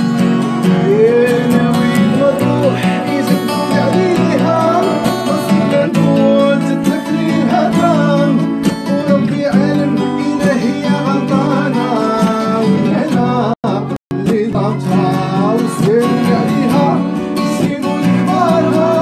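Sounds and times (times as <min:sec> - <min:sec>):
guitar strummed and plucked: 0:00.0 - 0:19.0.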